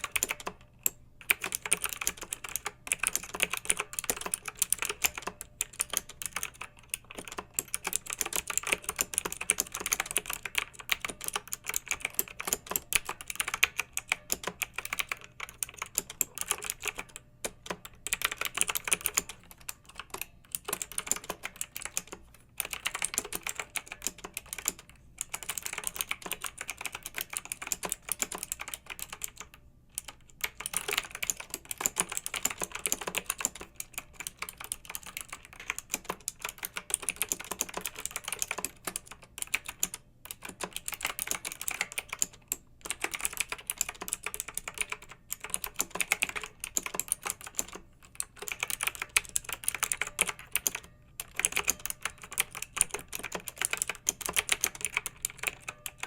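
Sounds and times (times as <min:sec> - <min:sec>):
clicky mechanical keyboard typing: 0:00.0 - 0:56.0.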